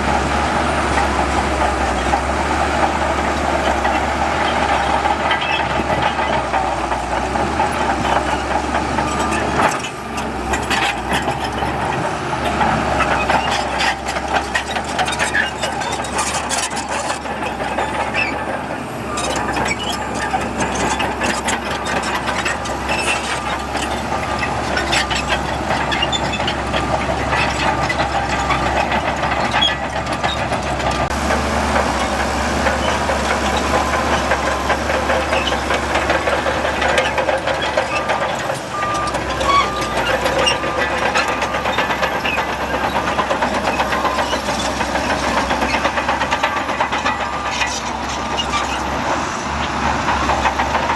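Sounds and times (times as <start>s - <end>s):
diesel machinery engine running: 0.0s - 50.9s
rattling and clanking: 0.0s - 50.9s.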